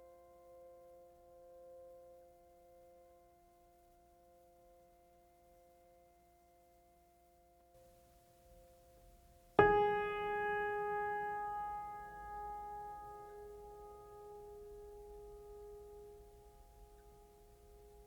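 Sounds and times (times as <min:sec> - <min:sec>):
faint held music tones: 0:00.0 - 0:18.0.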